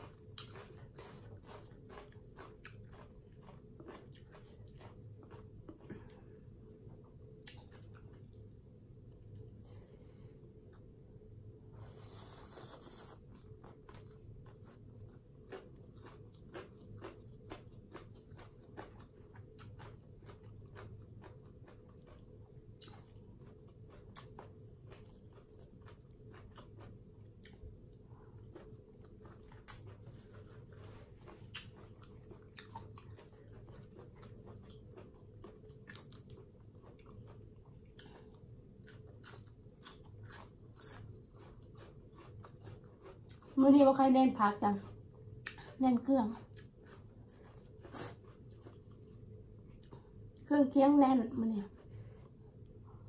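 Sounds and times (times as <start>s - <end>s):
chewing and mouth sounds: 0.0s - 9.8s, 12.2s - 43.6s, 44.6s - 50.5s.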